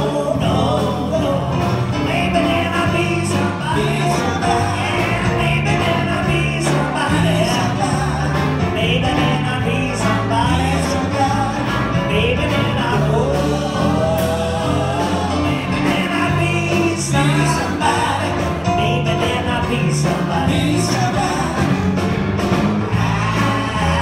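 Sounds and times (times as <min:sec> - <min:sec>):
men singing together: 0:00.0 - 0:22.0, 0:22.8 - 0:24.0
live blues band: 0:00.0 - 0:24.0.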